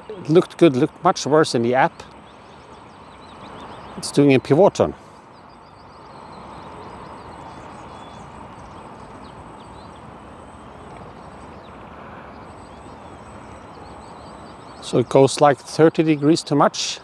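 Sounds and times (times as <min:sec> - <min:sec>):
wind: 0:00.0 - 0:17.0
faint bird chirps: 0:01.6 - 0:15.3.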